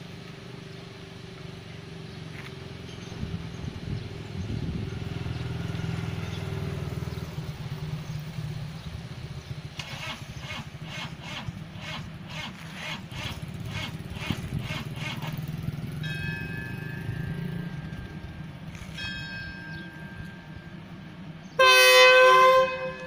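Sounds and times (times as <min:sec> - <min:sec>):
diesel train rumbling: 0:00.0 - 0:23.0.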